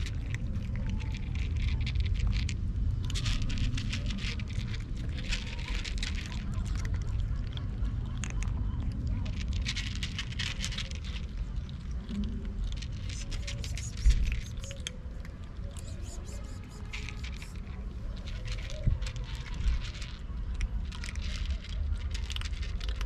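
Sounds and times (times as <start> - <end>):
cats crunching dry kibble: 0.0 - 23.0.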